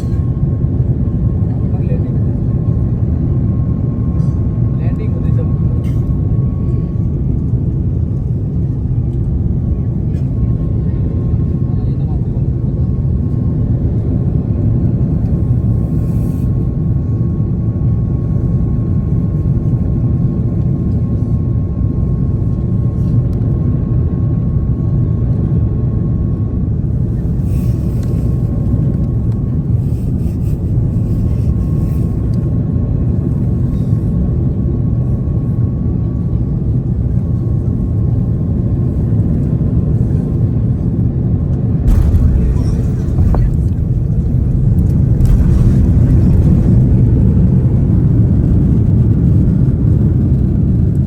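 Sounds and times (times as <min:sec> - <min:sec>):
airliner cabin engine rumble: 0:00.0 - 0:51.0.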